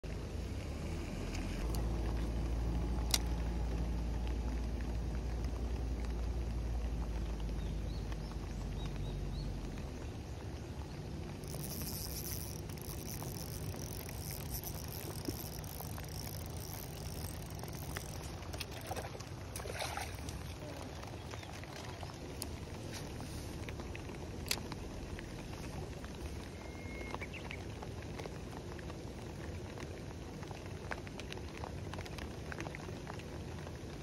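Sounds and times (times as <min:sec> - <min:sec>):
low rumble: 0:00.0 - 0:27.2
rain falling on pond: 0:00.0 - 0:34.0.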